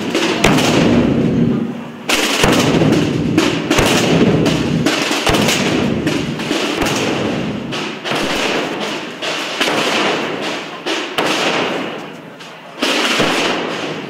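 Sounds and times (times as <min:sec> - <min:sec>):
snare drums: 0:00.0 - 0:14.0.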